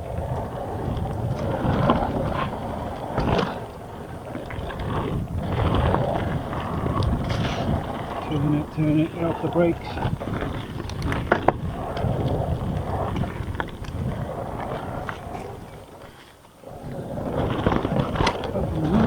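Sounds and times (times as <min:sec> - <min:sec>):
bike rattling: 0:00.0 - 0:19.0
bike tyres on dirt trail: 0:00.0 - 0:19.0.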